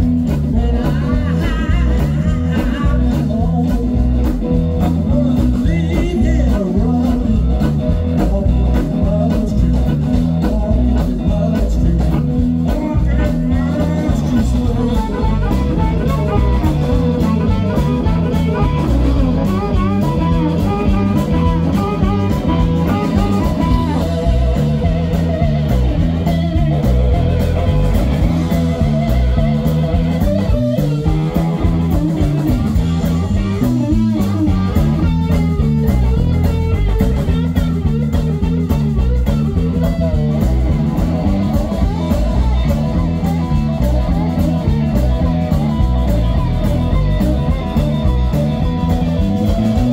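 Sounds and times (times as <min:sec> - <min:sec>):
drums: 0:00.0 - 0:49.9
electric guitar lead: 0:00.0 - 0:49.9
repeating bass line: 0:00.0 - 0:49.9.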